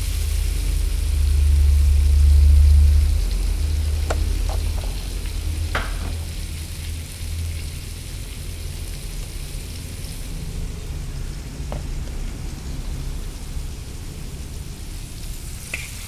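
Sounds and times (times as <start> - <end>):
gas burner rumble: 0.0 - 16.0
spices sizzling in oil: 0.0 - 16.0.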